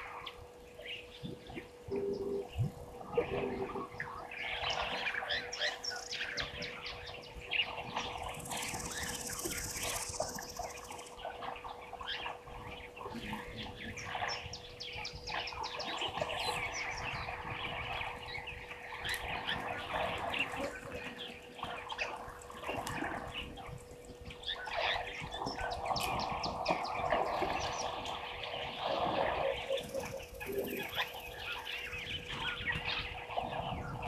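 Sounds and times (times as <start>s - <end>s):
steady hum: 0.0s - 34.0s
wild birds chirping: 0.0s - 34.0s.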